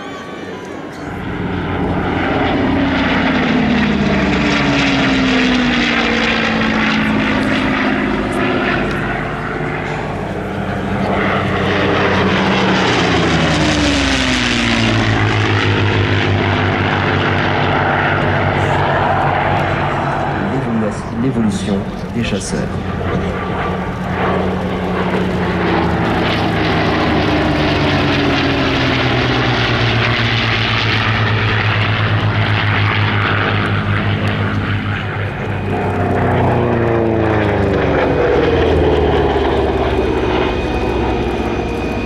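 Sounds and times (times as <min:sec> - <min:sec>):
propeller planes flying by: 0:00.0 - 0:42.0.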